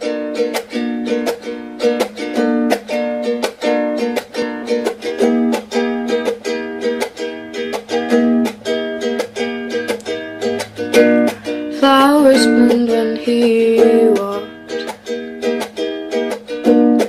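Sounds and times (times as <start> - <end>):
ukulele strumming: 0.0 - 17.0.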